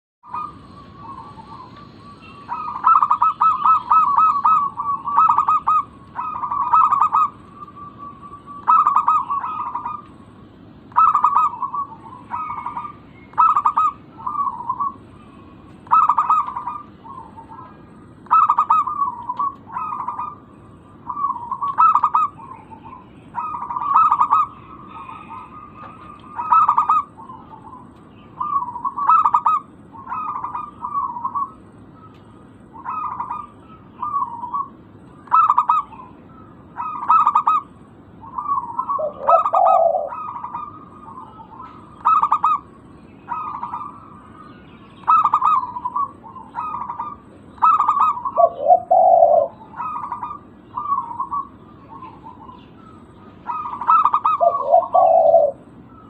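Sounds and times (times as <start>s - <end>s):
dove cooing: 0.2s - 56.0s.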